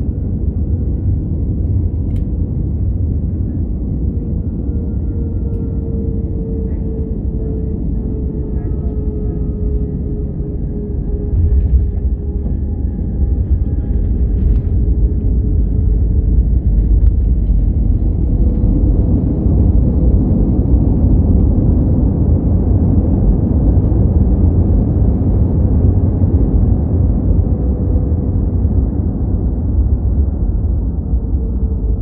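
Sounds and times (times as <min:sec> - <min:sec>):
faint engine tone: 0:00.0 - 0:32.0
wheels rumbling on runway: 0:00.0 - 0:32.0.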